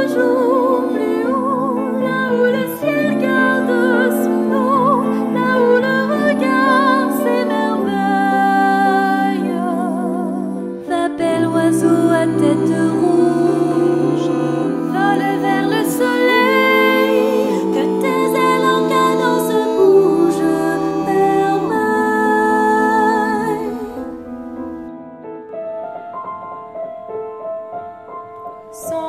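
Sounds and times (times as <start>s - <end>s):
group singing in harmony: 0.0s - 24.9s
piano: 0.0s - 29.0s.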